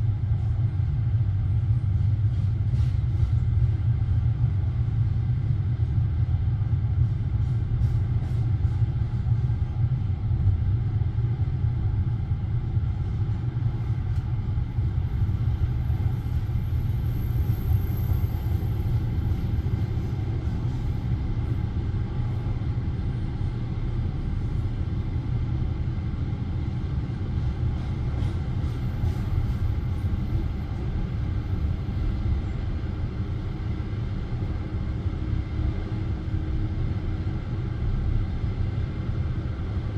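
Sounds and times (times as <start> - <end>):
railway carriage rumble inside: 0.0 - 39.9.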